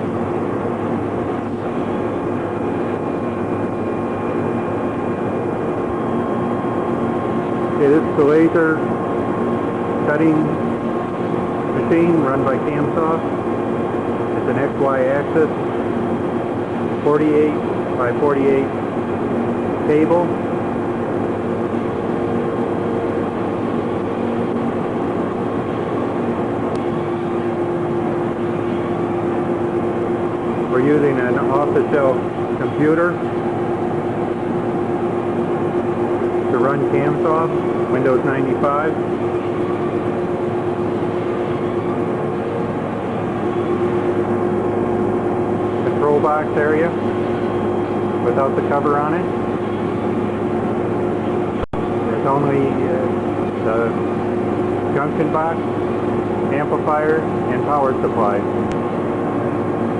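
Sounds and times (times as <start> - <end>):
machine mechanical drone: 0.0 - 59.9
steady tone: 0.0 - 59.9.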